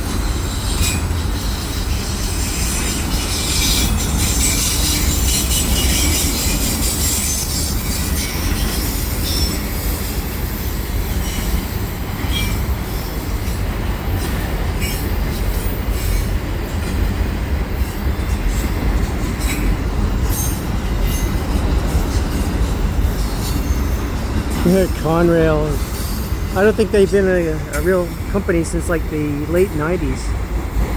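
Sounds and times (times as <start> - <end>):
rail joint clicks: 0.0 - 25.0
train wheels rumbling: 0.0 - 30.9.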